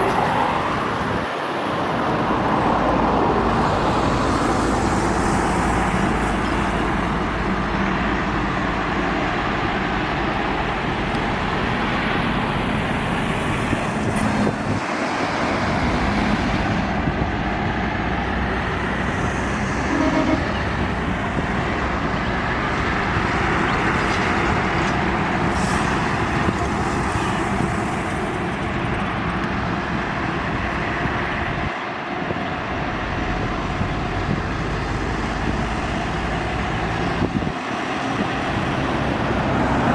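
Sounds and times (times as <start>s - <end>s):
highway traffic: 0.0s - 39.9s.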